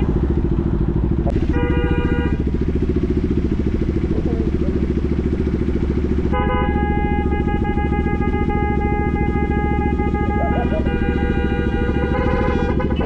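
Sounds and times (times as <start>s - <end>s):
car horns honking: 0.0s - 13.0s
motorcycle engine running: 0.0s - 13.0s.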